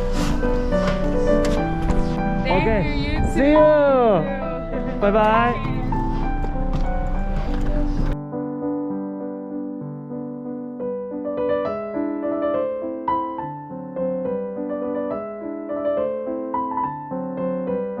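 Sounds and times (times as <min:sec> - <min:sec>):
gentle piano tune: 0:00.0 - 0:18.0.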